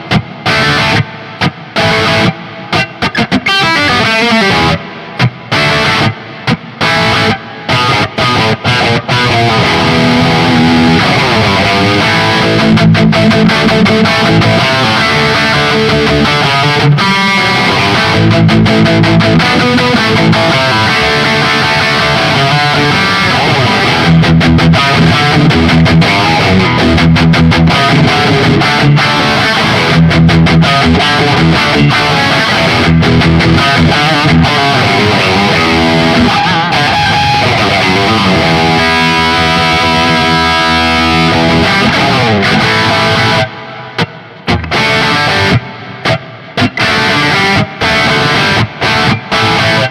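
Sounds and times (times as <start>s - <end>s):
distorted electric guitar: 0.0s - 49.9s.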